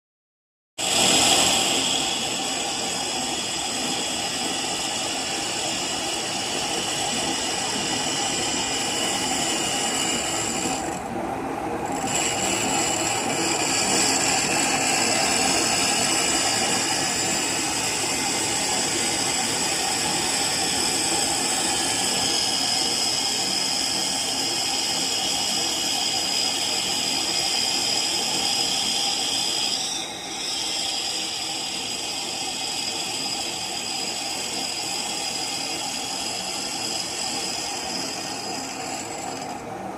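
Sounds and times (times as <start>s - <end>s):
high cutting whine: 0.8s - 39.8s
lathe running: 0.8s - 39.9s.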